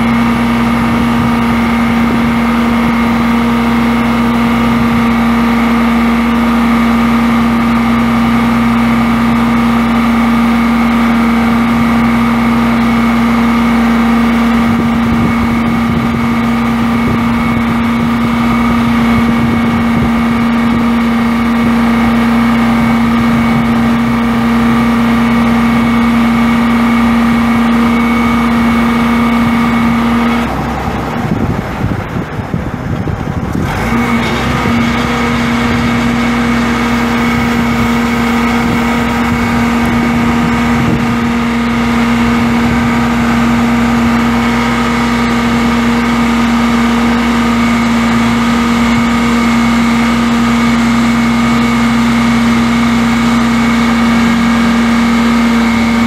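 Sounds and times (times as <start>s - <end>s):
constant whining tone: 0.0s - 56.0s
diesel truck engine running: 0.0s - 56.0s.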